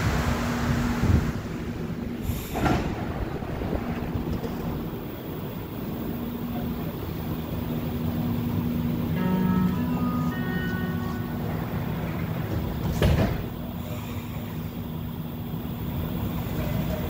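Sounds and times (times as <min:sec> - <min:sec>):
train equipment hum: 0:00.0 - 0:17.0.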